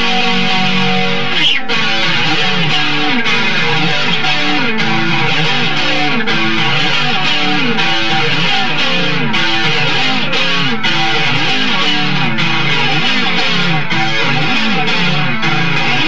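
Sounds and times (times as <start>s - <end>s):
electric guitar solo: 0.0s - 16.0s.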